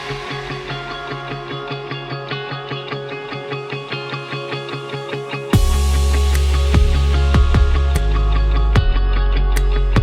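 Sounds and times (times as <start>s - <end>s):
plucked guitar-like notes: 0.0s - 10.0s.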